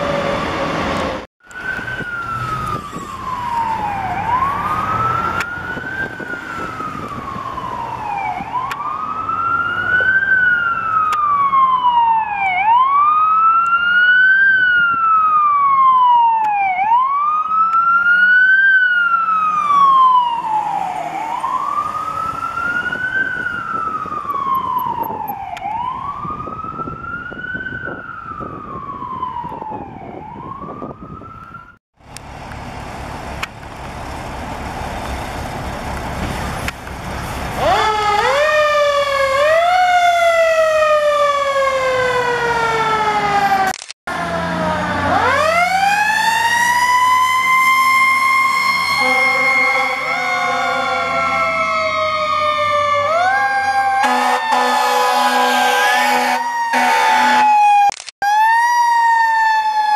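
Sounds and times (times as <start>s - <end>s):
fire engine siren wailing: 0.0s - 59.9s.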